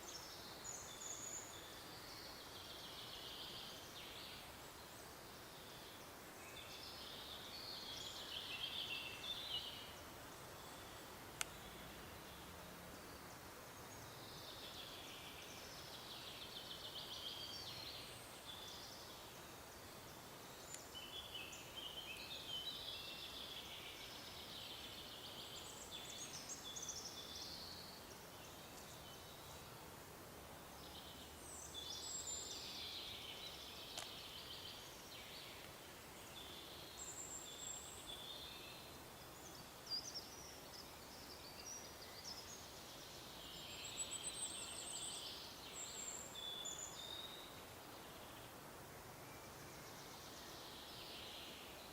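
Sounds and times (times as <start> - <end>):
songbirds chirping and trilling: 0.0 - 51.9
steady background hiss: 0.0 - 51.9.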